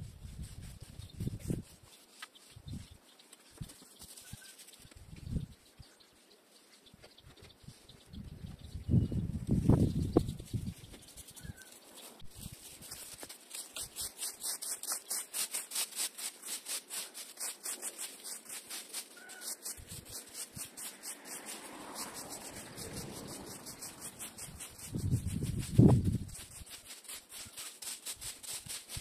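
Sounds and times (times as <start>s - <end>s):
rake scratching dry leaves: 0.0s - 4.9s, 9.7s - 29.0s.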